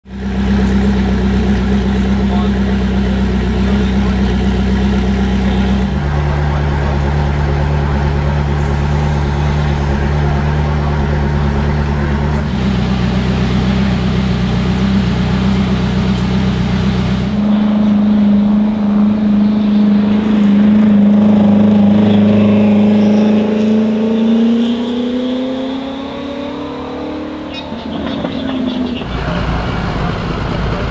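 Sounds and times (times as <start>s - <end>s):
car engine idling and accelerating: 0.0s - 30.9s.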